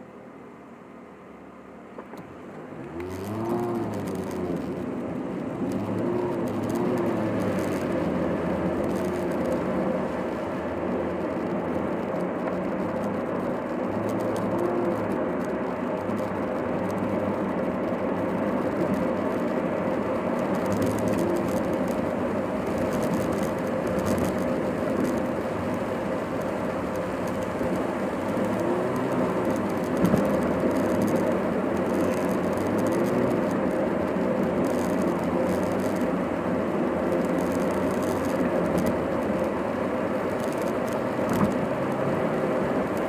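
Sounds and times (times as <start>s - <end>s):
road and engine noise: 0.0s - 43.0s.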